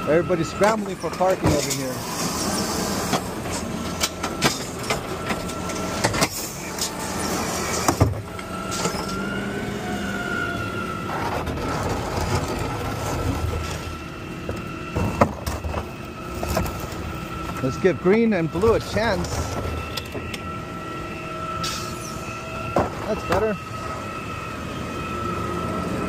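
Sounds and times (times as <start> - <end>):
hydraulic whine: 0.0 - 26.0.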